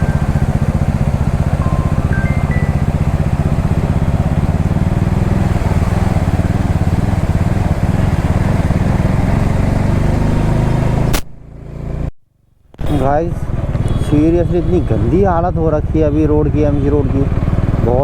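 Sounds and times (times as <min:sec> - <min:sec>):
motorcycle engine running: 0:00.0 - 0:12.1, 0:12.8 - 0:18.0
wind and road noise: 0:00.0 - 0:16.5.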